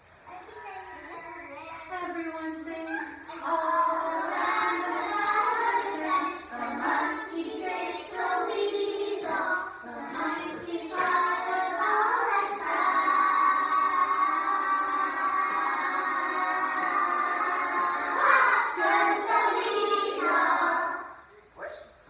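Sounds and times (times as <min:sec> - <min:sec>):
children singing in unison: 0:03.3 - 0:21.3.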